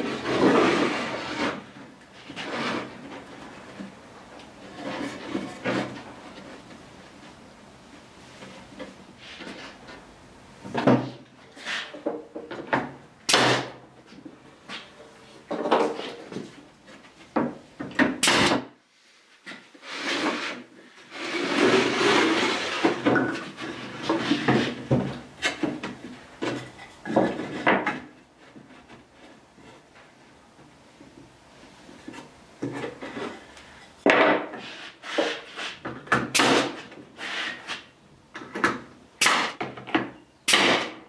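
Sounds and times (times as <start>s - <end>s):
boards sliding and scraping: 0.0s - 17.8s, 18.8s - 39.0s.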